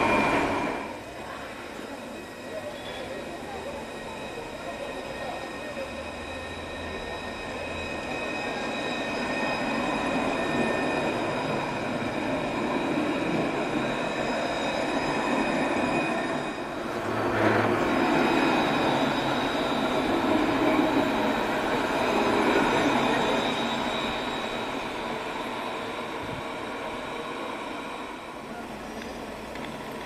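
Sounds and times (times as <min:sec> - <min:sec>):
tram wheels rumbling on rails: 0:00.0 - 0:30.0.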